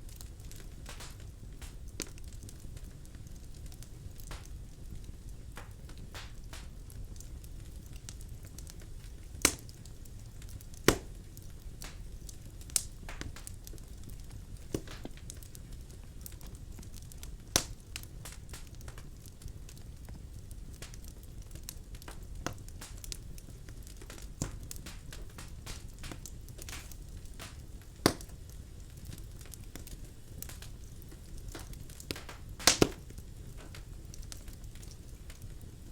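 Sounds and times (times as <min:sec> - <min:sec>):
low rumble of flame: 0:00.0 - 0:35.9
wood pops and crackles: 0:00.1 - 0:35.9.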